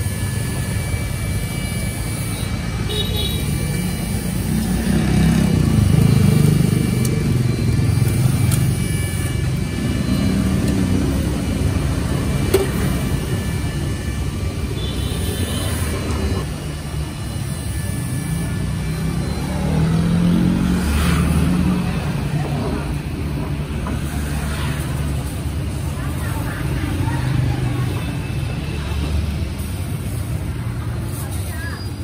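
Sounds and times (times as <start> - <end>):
motorbikes and cars passing: 0.0 - 32.0.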